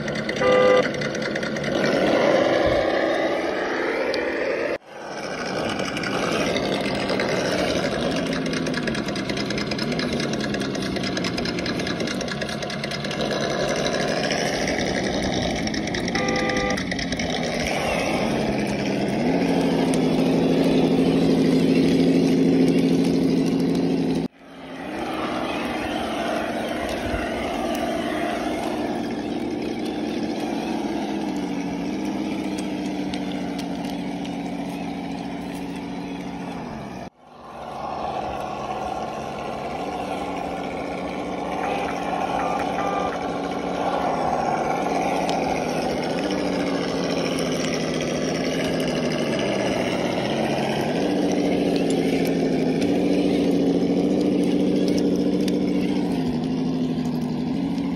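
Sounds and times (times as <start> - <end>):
electronic engine sound idling: 0.0 - 1.8, 4.1 - 37.1, 37.8 - 57.9.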